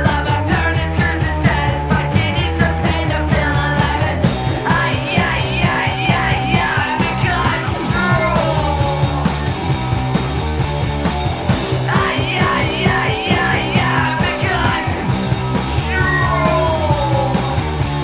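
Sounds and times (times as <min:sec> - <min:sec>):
person singing: 0:00.0 - 0:09.4, 0:11.9 - 0:15.1, 0:15.8 - 0:18.0
garage punk rock song: 0:00.0 - 0:18.0.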